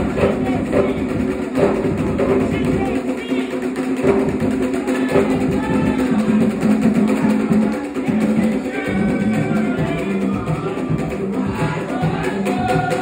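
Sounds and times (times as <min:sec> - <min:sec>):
group of voices singing: 0:00.0 - 0:13.0
steady drumming: 0:00.0 - 0:13.0.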